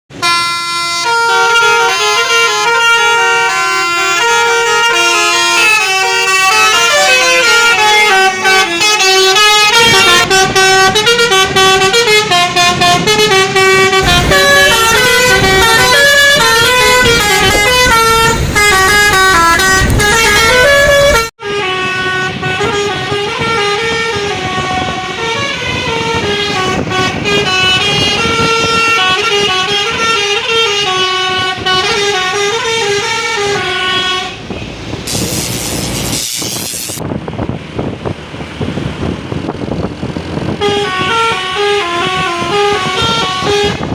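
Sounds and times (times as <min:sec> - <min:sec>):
multi-tone air horn melody: 0:00.1 - 0:34.5, 0:35.1 - 0:37.0, 0:40.6 - 0:43.9.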